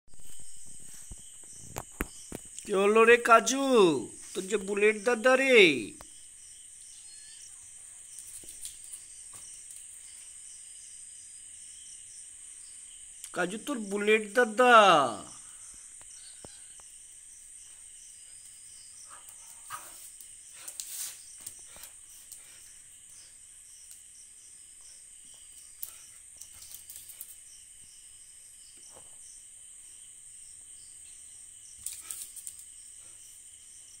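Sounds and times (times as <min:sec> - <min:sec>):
night insects chirping: 0:00.1 - 0:34.0.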